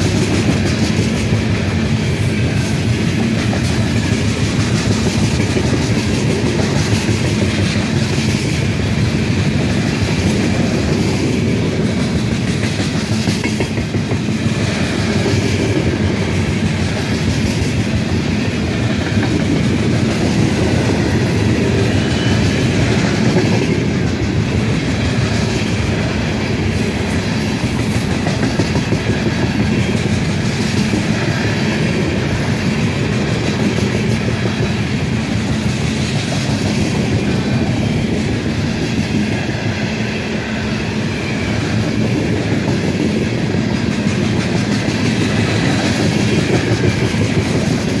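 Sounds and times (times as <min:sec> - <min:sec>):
freight train wheels rumbling and clacking: 0:00.0 - 0:48.0.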